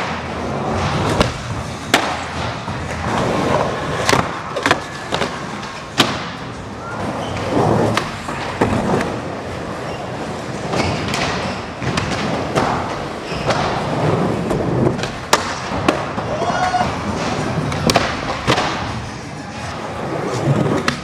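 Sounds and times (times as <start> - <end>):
skateboard wheels rolling: 0.0 - 21.0
skateboards clacking: 0.0 - 21.0.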